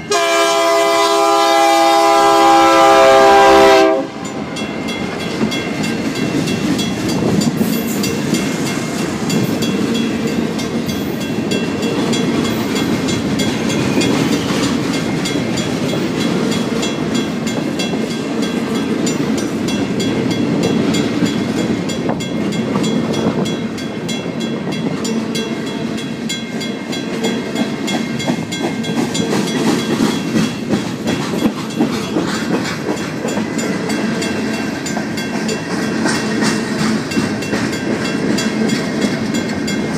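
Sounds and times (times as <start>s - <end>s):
crossing bell ringing: 0.0s - 39.9s
freight train rumbling: 0.0s - 39.9s
train wheels clacking over rails: 0.0s - 39.9s.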